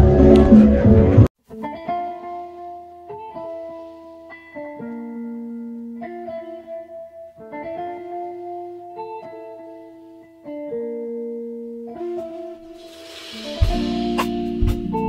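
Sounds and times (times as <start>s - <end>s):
picked guitar melody: 0.0s - 15.0s.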